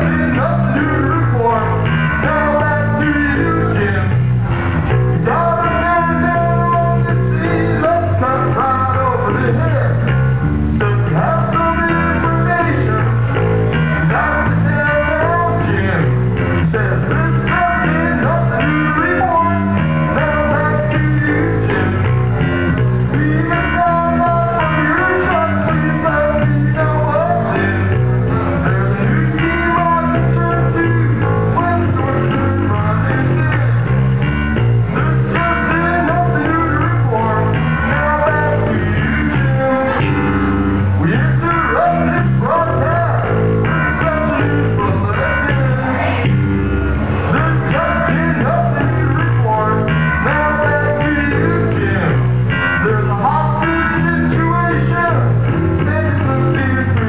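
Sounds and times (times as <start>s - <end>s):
person singing: 0.0s - 10.1s, 10.8s - 34.2s, 34.8s - 57.0s
electric bass line: 0.0s - 57.0s.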